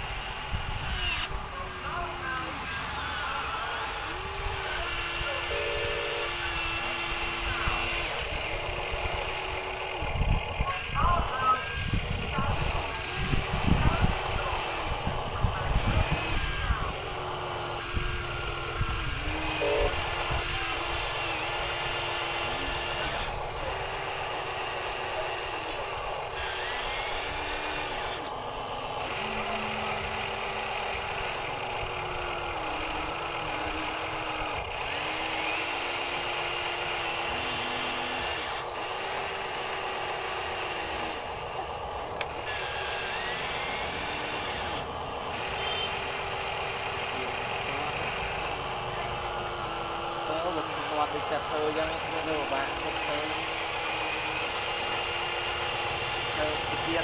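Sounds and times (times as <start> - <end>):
small electric motors whining: 0.0 - 57.0.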